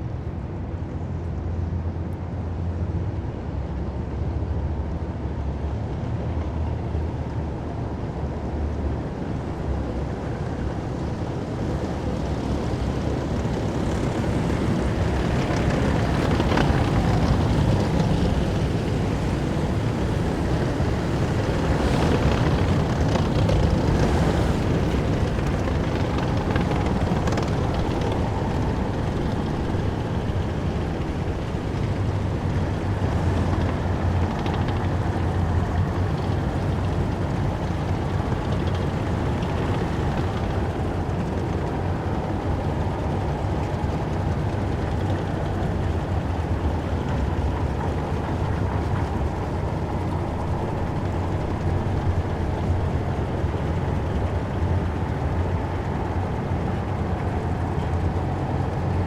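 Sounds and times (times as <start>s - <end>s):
heavy vehicle engines rumbling: 0.0s - 59.0s.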